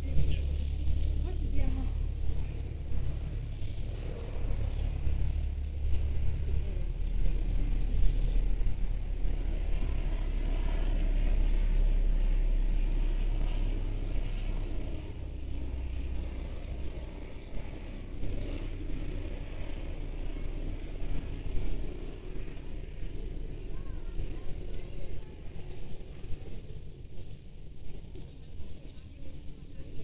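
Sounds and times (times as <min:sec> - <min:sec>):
vehicle engine and tyre rumble: 0:00.0 - 0:30.0.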